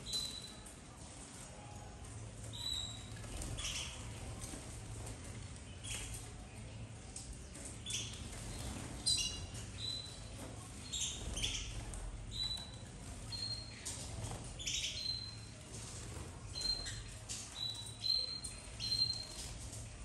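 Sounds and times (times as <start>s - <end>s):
canaries chirping: 0.0s - 1.2s, 1.9s - 20.0s.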